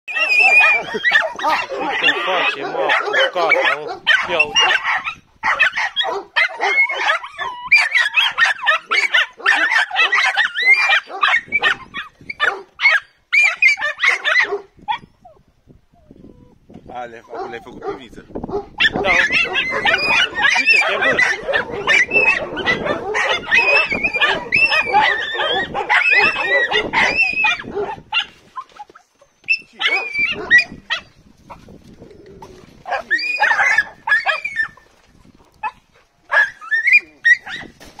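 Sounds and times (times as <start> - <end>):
puppy yelping and barking: 0.1 - 15.4, 18.8 - 31.6, 32.9 - 34.8, 35.6 - 38.0.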